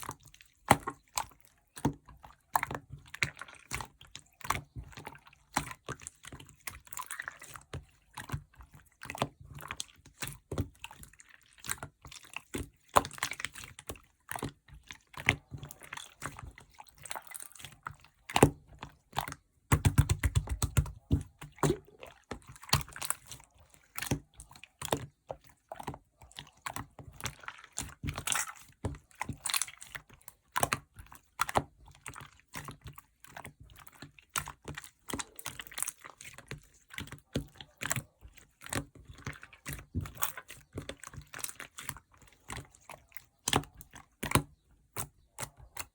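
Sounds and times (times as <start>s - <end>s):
slime squishing by hand: 0.0s - 45.9s.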